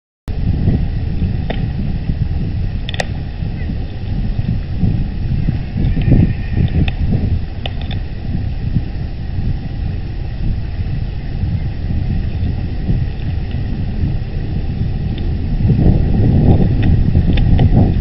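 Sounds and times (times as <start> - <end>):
wind buffeting microphone: 0.3 - 18.0.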